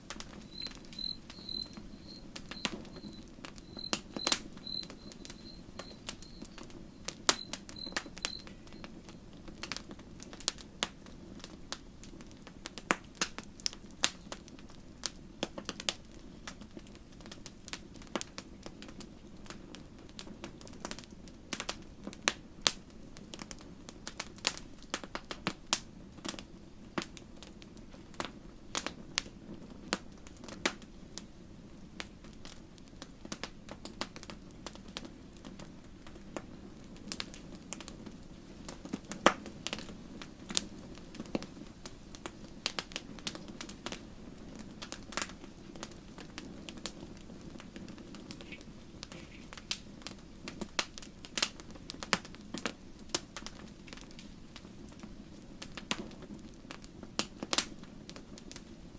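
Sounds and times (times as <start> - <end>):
low hiss of burning: 0.0 - 58.9
wood fire crackling and popping: 0.0 - 58.9.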